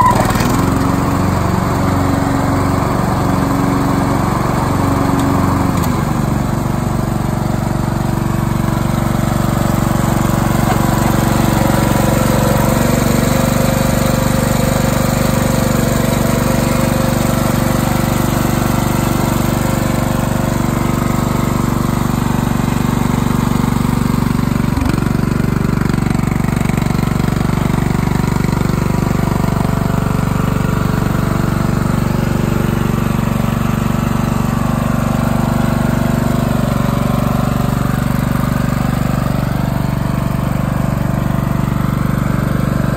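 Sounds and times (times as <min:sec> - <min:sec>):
riding mower engine running: 0:00.0 - 0:42.9.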